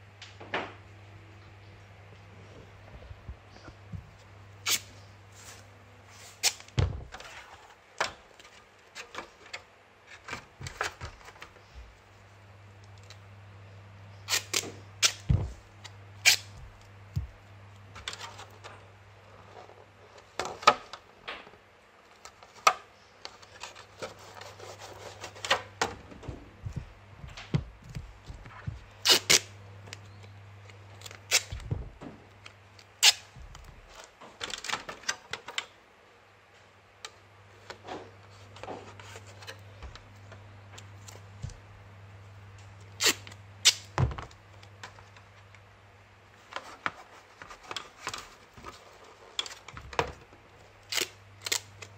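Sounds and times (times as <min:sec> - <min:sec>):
steady low hum: 0:00.0 - 0:22.1, 0:22.9 - 0:34.2, 0:34.8 - 0:51.9.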